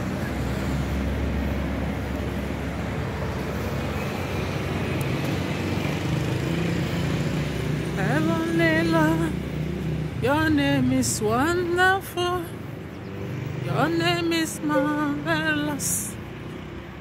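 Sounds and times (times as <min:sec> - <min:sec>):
traffic hum: 0:00.0 - 0:17.0.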